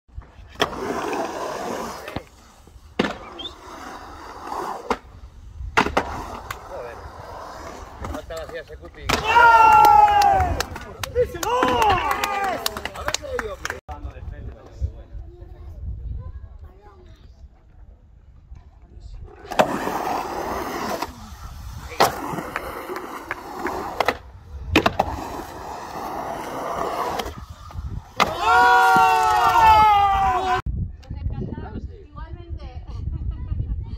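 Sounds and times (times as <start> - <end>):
skateboard wheels rolling on concrete: 0.1 - 15.8, 16.5 - 30.7.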